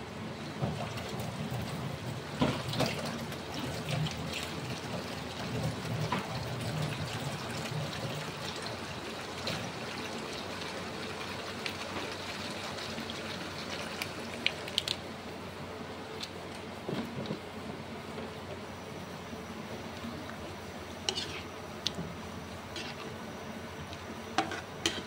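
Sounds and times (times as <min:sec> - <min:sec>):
sauce simmering in a wok: 0:01.3 - 0:16.0, 0:17.9 - 0:25.0.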